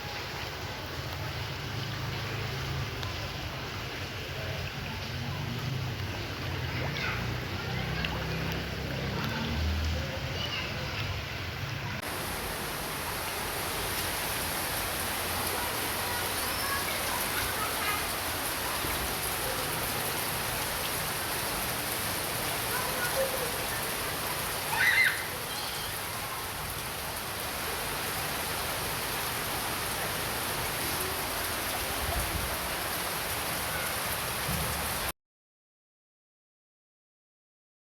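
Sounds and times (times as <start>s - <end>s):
rain hissing: 0.0s - 35.1s.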